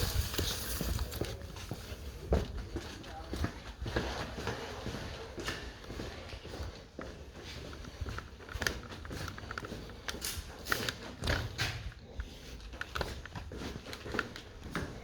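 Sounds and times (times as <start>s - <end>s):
footsteps walking: 0.0s - 15.0s.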